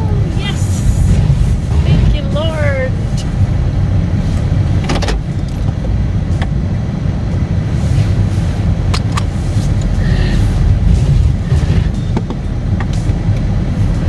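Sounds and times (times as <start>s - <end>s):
car rumble from inside cabin: 0.0s - 14.0s.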